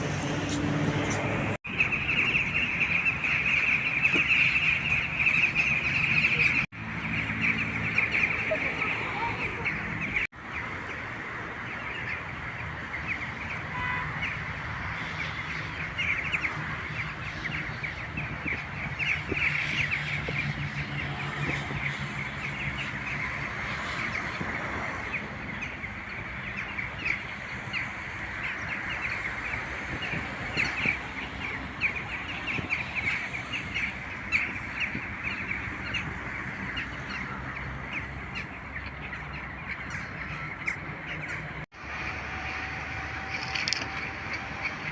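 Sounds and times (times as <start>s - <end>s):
flock of birds chirping: 0.0s - 44.9s.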